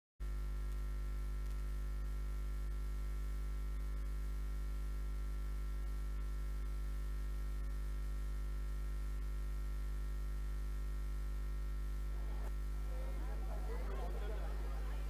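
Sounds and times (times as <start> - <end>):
low electrical mains hum: 0.2 - 15.0.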